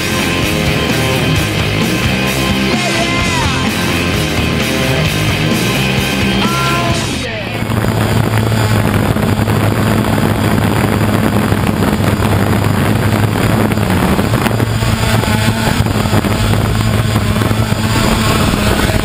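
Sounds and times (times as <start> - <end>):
quadcopter propellers humming: 0.0 - 19.0.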